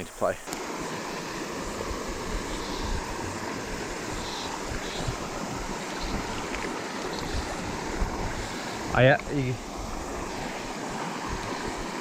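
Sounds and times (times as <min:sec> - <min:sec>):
mountain stream rushing: 0:00.0 - 0:12.0
wind buffeting microphone: 0:01.1 - 0:12.0.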